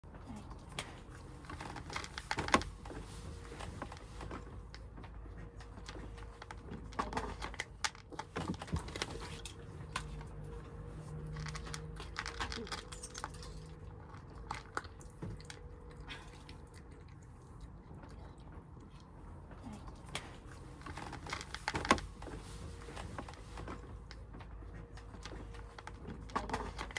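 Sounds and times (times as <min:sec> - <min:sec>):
kittens crunching food: 0:00.2 - 0:26.9.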